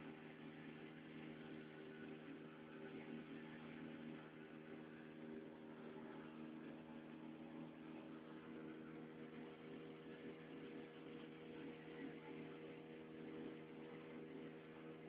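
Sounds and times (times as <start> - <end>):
motorboat engine drone: 0.0 - 15.0.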